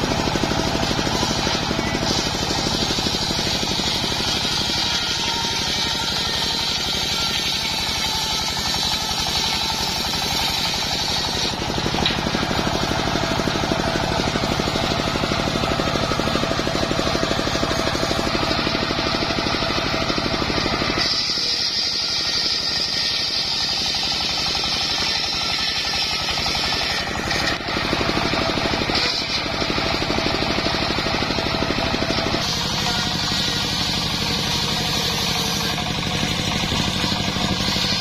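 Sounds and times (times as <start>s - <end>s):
engine running with even pulse: 0.0s - 38.0s
saw blade cutting log: 0.0s - 38.0s.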